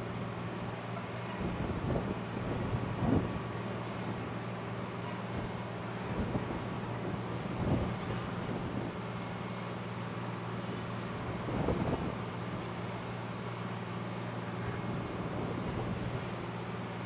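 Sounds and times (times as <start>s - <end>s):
flight deck mechanical hum: 0.0s - 17.0s.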